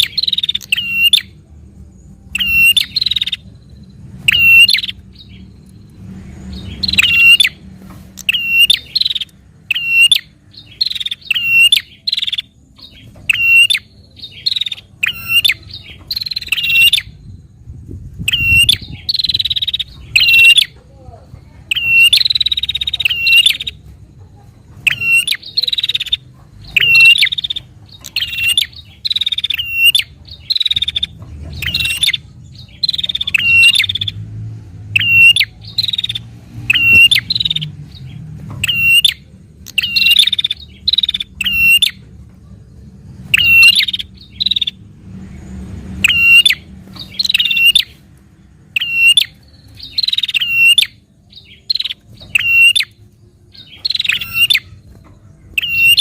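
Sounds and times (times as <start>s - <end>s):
bird calling sharp chirps: 0.0s - 1.4s, 2.1s - 20.8s, 21.6s - 42.1s, 43.2s - 44.9s, 45.5s - 56.0s.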